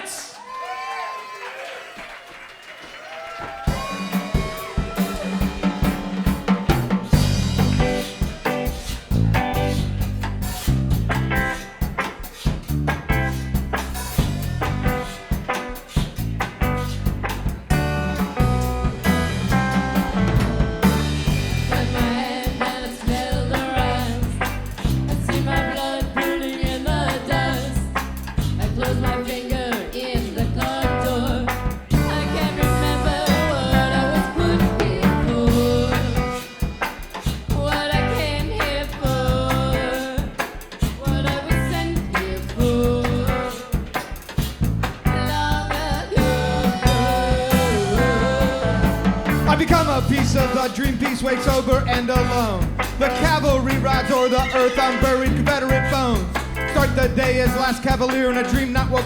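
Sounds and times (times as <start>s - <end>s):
band playing a song: 3.4s - 59.0s
drum kit beat: 3.4s - 59.0s.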